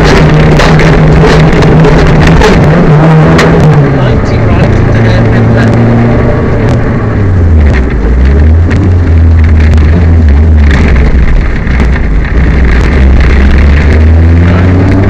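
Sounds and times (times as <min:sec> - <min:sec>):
car engine droning under load: 0:00.0 - 0:15.0
car knocks and rattles: 0:00.0 - 0:15.0.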